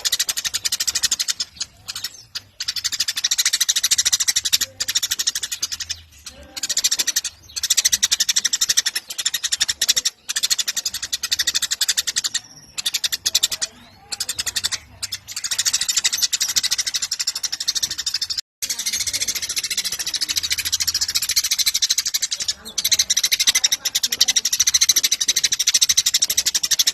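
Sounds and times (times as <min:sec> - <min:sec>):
sparrows chirping: 0:00.0 - 0:26.9.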